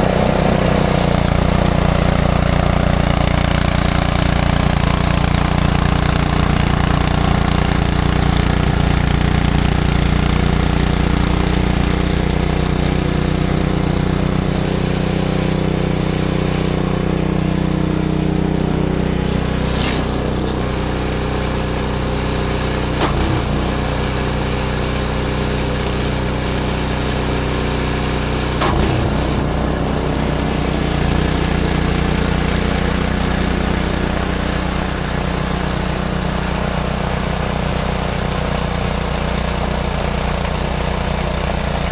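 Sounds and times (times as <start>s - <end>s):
snowblower engine running: 0.0s - 41.9s.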